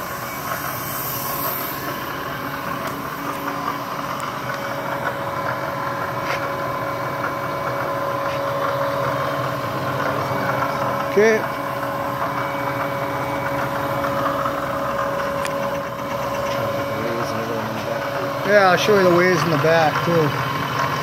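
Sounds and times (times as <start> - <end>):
milling machine spindle humming: 0.0 - 21.0.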